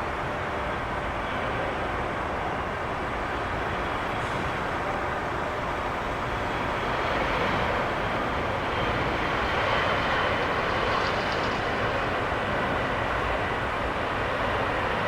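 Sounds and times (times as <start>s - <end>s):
jet engines rushing with high whine: 0.0s - 15.0s.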